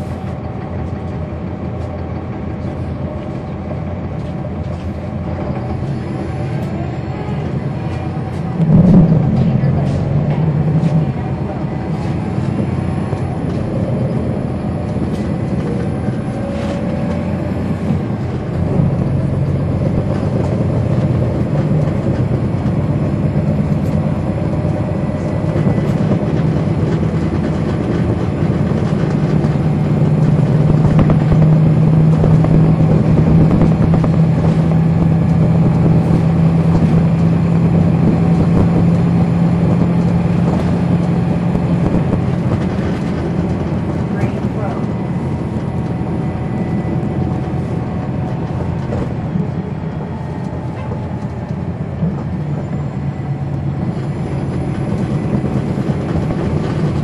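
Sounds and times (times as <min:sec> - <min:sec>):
bus diesel engine droning: 0:00.0 - 0:57.0.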